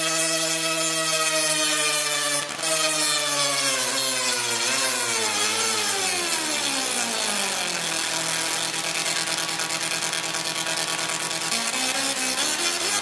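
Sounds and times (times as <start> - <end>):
tesla coil sparks buzzing: 0.0 - 13.0.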